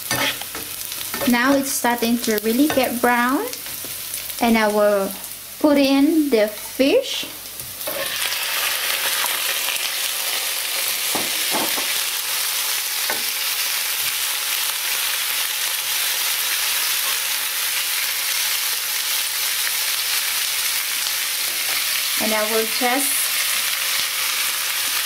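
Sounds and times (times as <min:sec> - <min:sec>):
fish fillets sizzling in oil: 0:00.0 - 0:25.0.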